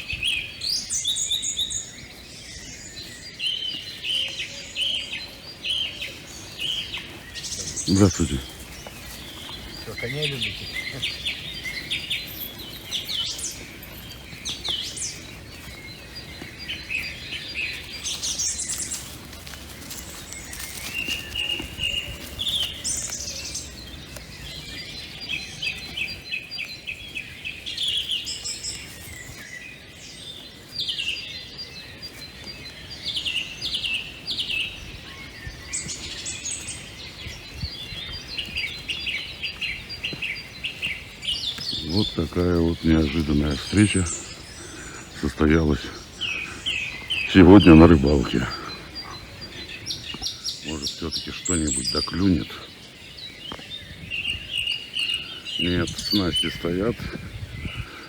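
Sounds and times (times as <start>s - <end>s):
small birds chirping and trilling: 0.0s - 58.0s.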